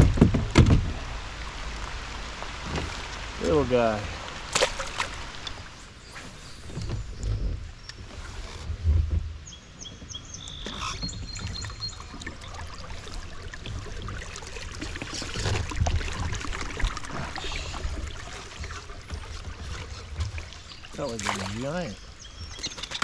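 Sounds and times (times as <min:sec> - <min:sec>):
muffled rain on microphone: 0:00.0 - 0:22.5.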